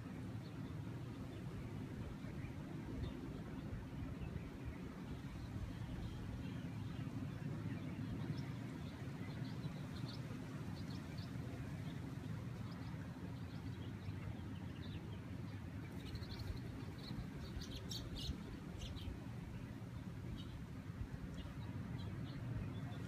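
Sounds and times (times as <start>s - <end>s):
small birds chirping: 0.3s - 23.0s.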